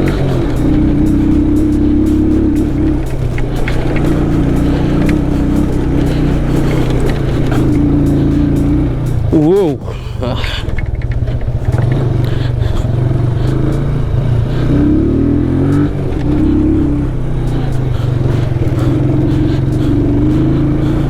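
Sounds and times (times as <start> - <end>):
heavy low rumble: 0.0 - 21.0
motorcycle engine revving: 0.0 - 21.0.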